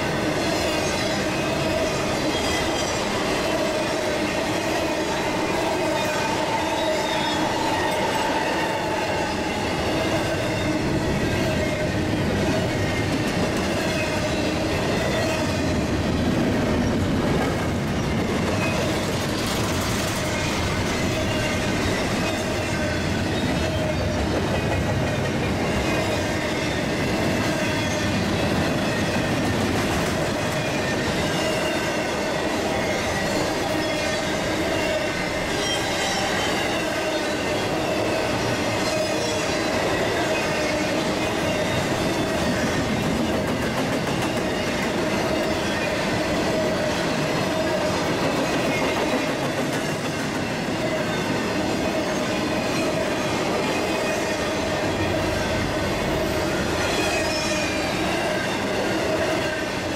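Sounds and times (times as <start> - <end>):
high squeal of train wheels: 0.0 - 59.9
train wheels rumbling on rails: 0.0 - 59.9.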